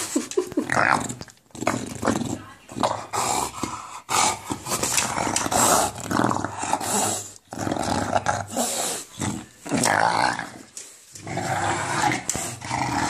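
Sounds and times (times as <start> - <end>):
dog growling: 0.4 - 13.0.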